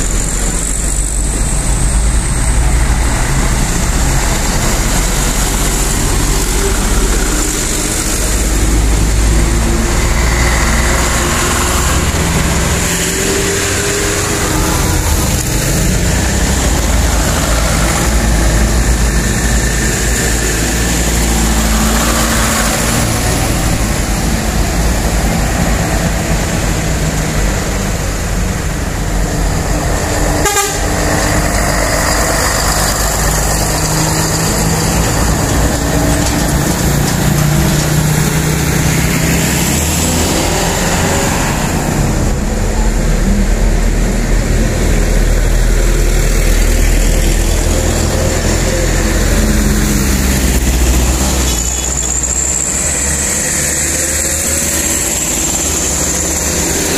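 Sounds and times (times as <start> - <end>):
heavy truck diesel engines: 0.0 - 56.9.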